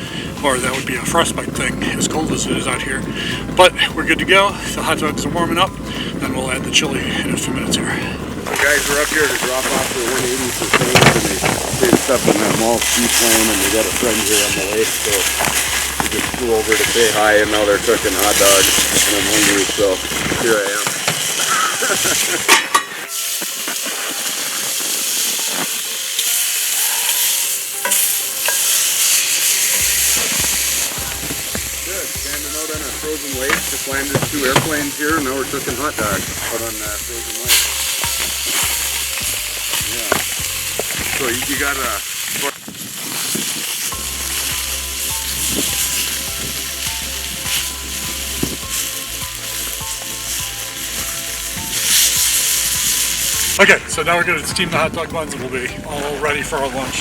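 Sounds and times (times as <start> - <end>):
hot dogs sizzling in a pan: 0.0 - 7.2, 8.2 - 54.6
background music: 0.0 - 42.5, 43.9 - 57.0.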